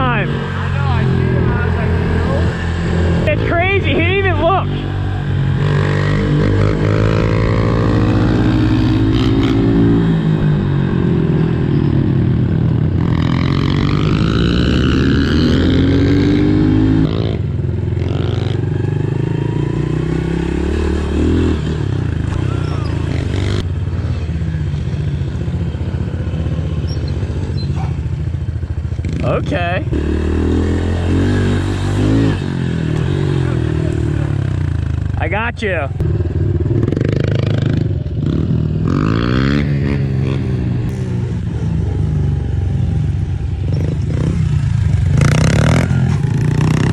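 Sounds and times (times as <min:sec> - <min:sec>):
pit bike engines revving: 0:00.0 - 0:46.9.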